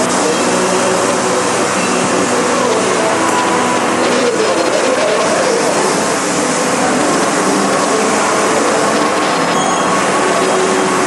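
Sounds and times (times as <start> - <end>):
machining center running: 0.0 - 11.0.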